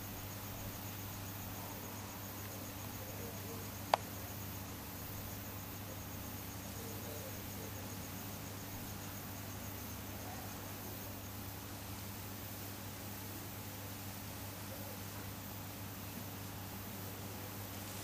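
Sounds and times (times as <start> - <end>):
crickets chirping: 0.0 - 18.0
low hum and hiss: 0.0 - 18.0.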